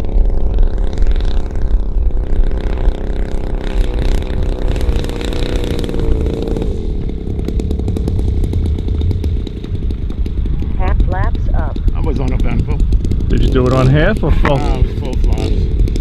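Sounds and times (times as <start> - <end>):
model airplane engine running: 0.0 - 10.8, 11.8 - 16.0.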